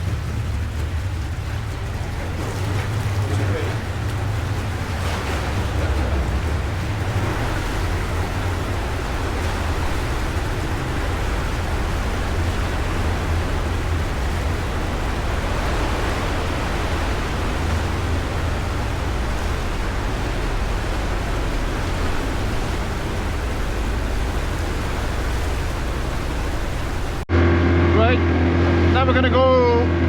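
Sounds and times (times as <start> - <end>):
deep boat engine rumble: 0.0 - 30.0
wind and water rushing: 0.0 - 30.0.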